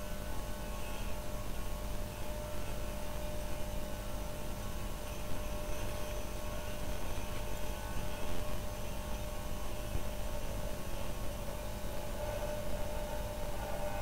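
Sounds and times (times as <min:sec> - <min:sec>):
electrical hum with hiss: 0:00.0 - 0:14.0.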